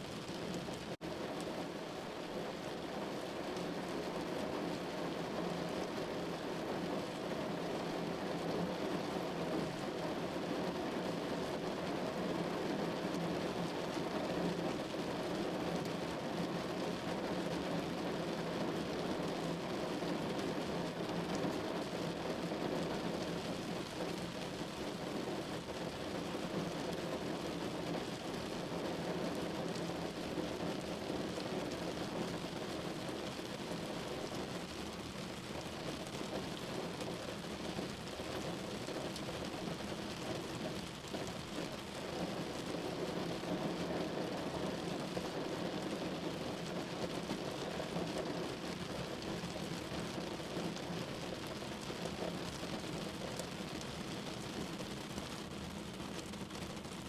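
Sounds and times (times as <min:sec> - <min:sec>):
rain on a window pane: 0:00.0 - 0:57.0.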